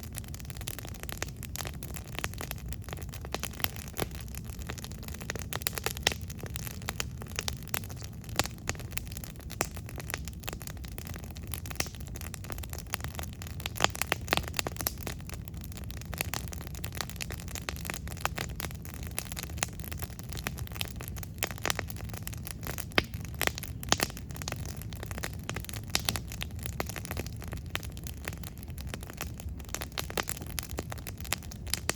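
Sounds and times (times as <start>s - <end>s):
campfire crackling and popping: 0.0s - 31.9s
low steady rumble: 0.0s - 31.9s.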